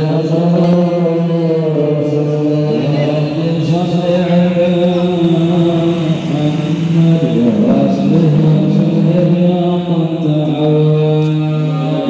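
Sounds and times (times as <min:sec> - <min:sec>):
chanting voice over loudspeakers: 0:00.0 - 0:12.0.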